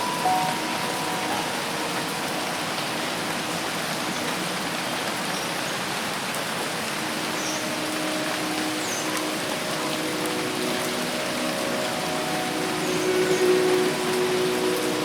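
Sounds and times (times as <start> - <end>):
dense rain in a forest: 0.0 - 15.0.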